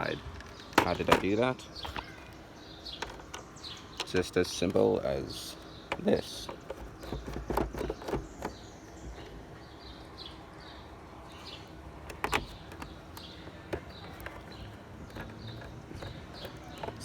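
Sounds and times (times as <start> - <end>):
clicks and knocks on plastic casing: 0.1 - 9.5, 11.9 - 17.0.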